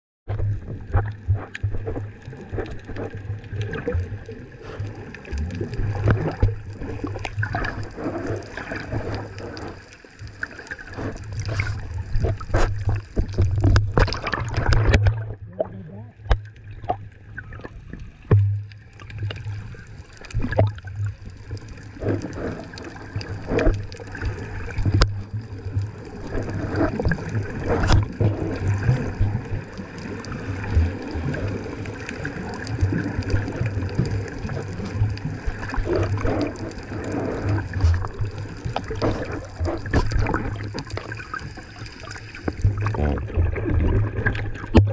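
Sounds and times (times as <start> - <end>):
water splashing and gurgling: 0.3 - 44.9.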